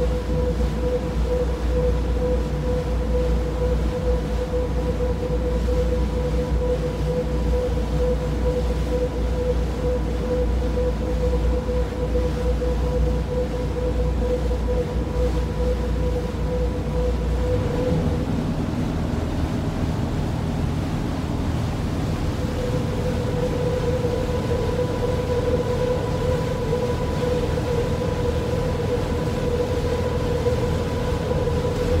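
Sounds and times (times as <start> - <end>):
mechanical rumble with hum: 0.0 - 32.0.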